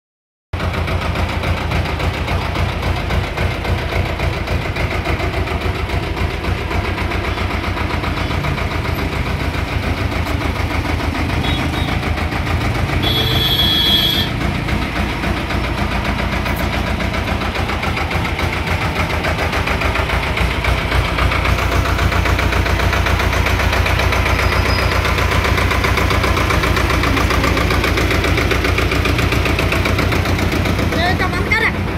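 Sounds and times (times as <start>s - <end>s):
tractor diesel engine running: 0.5s - 31.9s.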